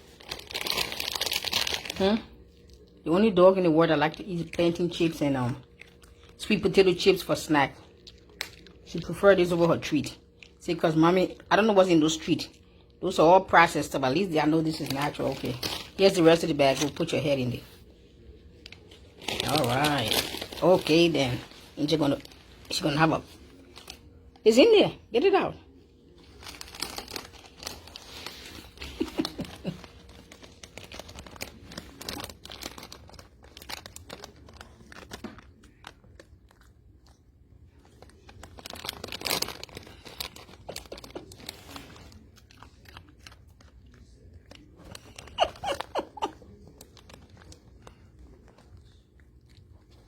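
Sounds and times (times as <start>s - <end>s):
snack bag rustling and crackling: 0.0s - 3.0s, 4.0s - 10.7s, 13.6s - 24.8s, 25.6s - 50.0s
dog crunching chips: 0.0s - 50.0s.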